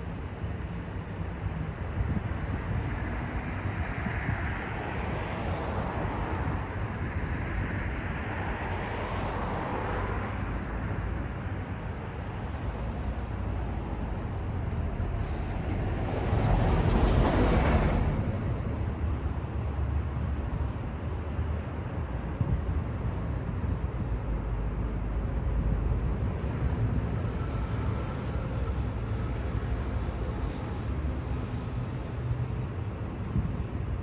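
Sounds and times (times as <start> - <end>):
city street traffic: 0.0 - 34.0.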